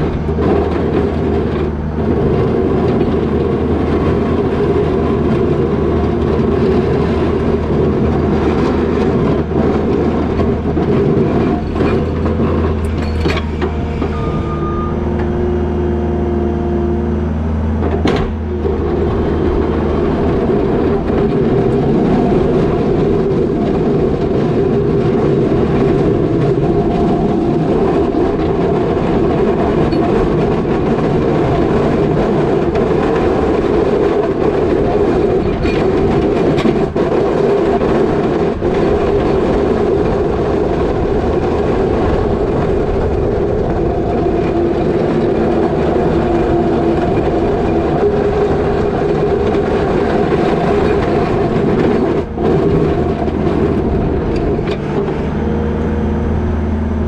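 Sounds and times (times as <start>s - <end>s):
deep low hum: 0.0s - 57.0s
diesel engine running under load: 0.0s - 57.0s.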